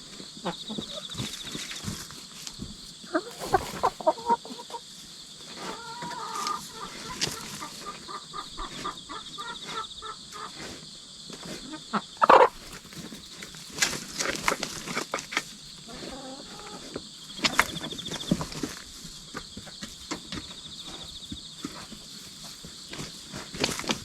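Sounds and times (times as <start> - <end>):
hens clucking: 0.1 - 24.0.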